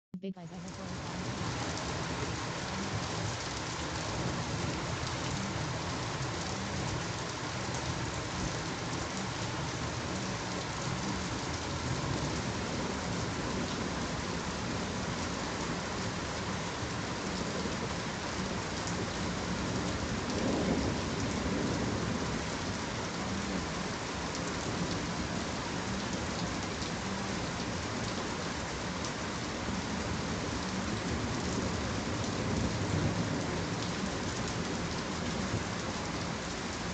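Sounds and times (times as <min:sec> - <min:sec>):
steady rain falling: 0:00.4 - 0:36.9.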